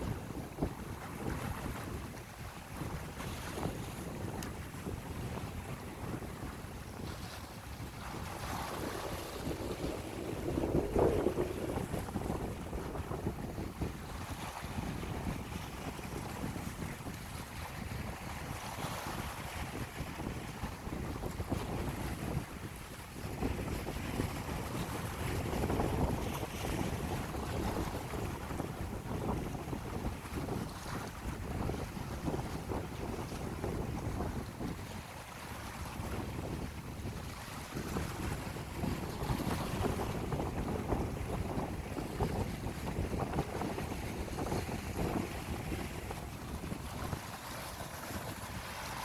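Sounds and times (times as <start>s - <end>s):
sea waves washing on shore: 0.0s - 49.0s
wind buffeting microphone: 0.0s - 49.0s.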